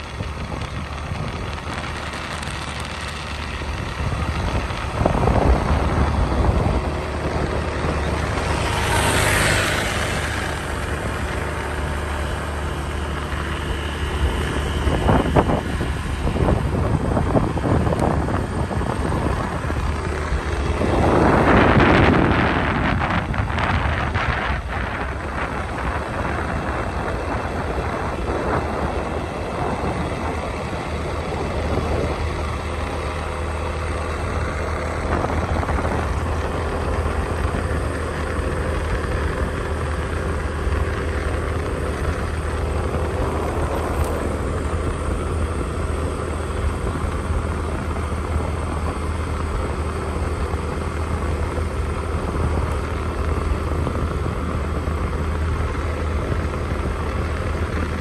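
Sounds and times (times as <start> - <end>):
vehicle driving on concrete road: 0.0 - 58.0.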